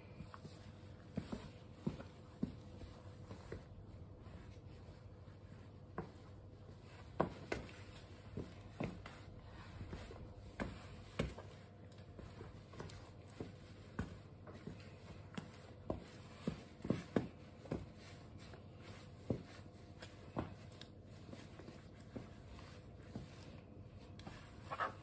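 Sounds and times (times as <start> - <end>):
footsteps on tiled floor: 0.0 - 25.0.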